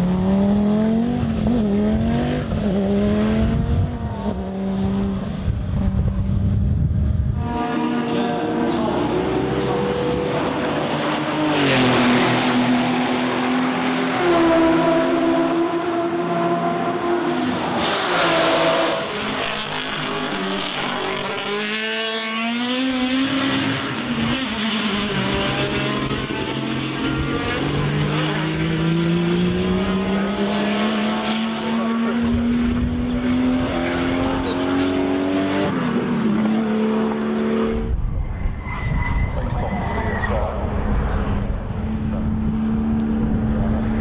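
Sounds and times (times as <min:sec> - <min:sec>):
race car engine at full throttle: 0:00.0 - 0:44.0.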